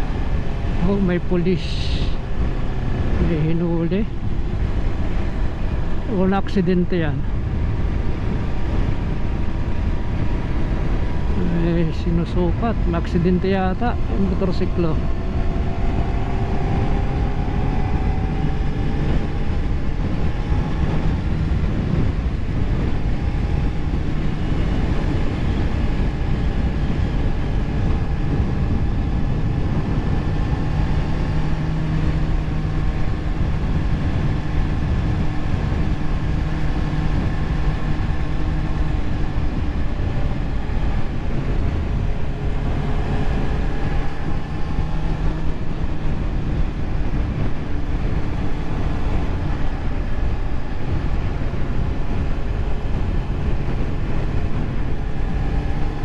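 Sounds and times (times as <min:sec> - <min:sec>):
motorcycle engine cruising: 0:00.0 - 0:56.0
wind rushing on microphone: 0:00.0 - 0:56.0.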